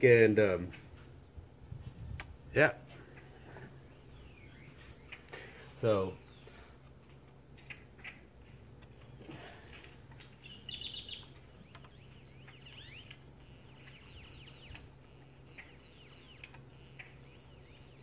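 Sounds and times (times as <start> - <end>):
steady low hum: 0.0 - 18.0
birds chirping: 2.3 - 18.0.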